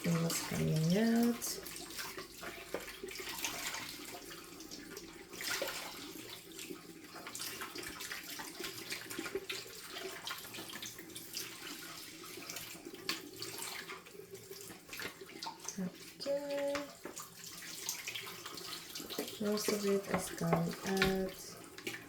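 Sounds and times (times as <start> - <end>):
tap water splashing on plastic: 0.0 - 22.0.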